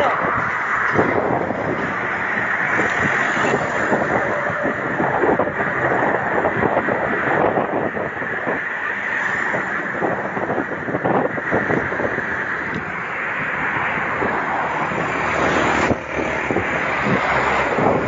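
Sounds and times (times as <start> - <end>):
road and passing traffic: 0.0 - 18.0
wind on microphone: 0.0 - 18.0.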